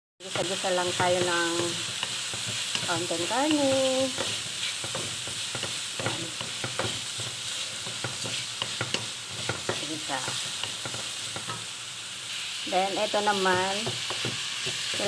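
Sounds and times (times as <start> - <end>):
spatula scraping a pan: 0.2 - 12.4
meat sizzling in a frying pan: 0.2 - 15.0.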